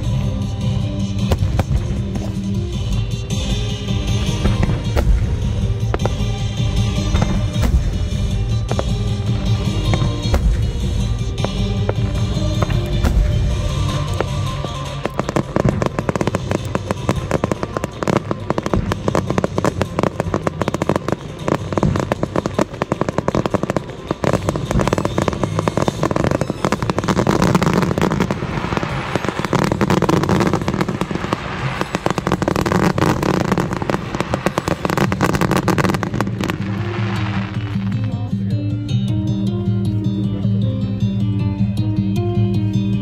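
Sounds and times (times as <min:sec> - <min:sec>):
fireworks bangs and crackling: 0:00.0 - 0:38.3.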